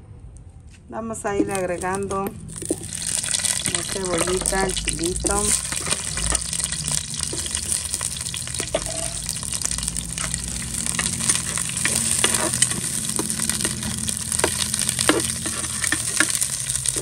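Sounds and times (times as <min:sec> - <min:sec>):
metal spoon stirring: 0:01.3 - 0:17.0
onion sizzling in hot oil: 0:01.4 - 0:17.0.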